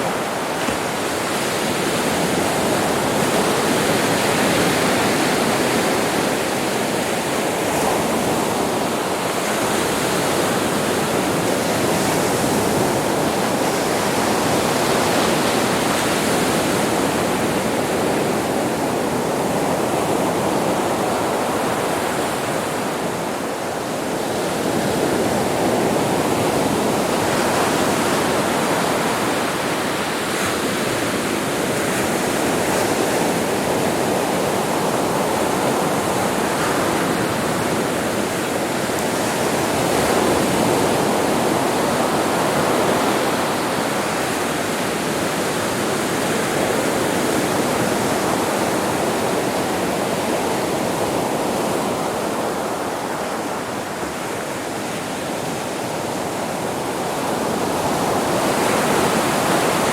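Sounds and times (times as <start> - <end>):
ocean waves on a beach: 0.0 - 59.9.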